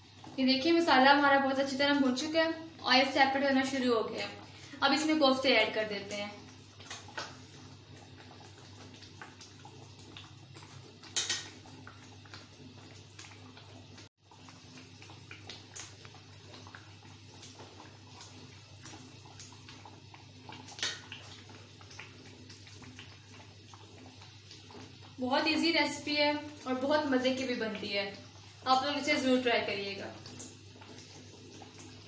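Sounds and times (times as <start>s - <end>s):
thick gravy bubbling and popping: 0.0s - 32.0s.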